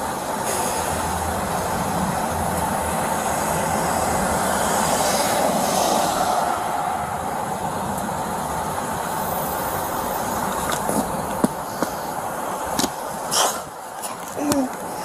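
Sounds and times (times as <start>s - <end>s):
steady rushing rumble: 0.0s - 15.0s.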